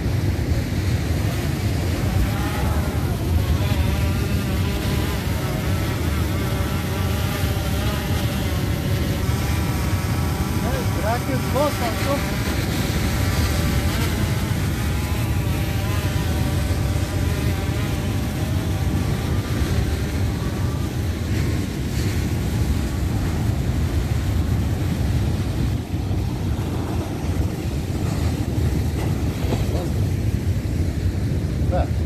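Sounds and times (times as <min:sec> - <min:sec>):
drone propeller whine: 0:00.0 - 0:32.0
surf breaking: 0:00.0 - 0:32.0
wind rumble on microphone: 0:00.0 - 0:32.0.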